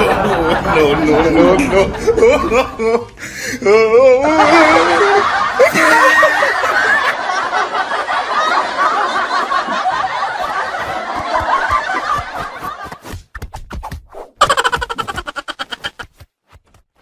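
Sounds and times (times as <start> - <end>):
people laughing: 0.0 - 13.0, 14.4 - 16.1.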